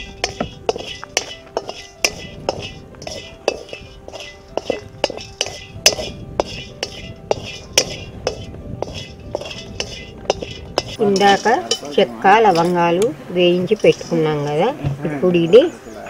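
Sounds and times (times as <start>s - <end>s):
wooden spatula scraping iron pan: 0.0s - 13.0s
background music: 0.0s - 16.0s.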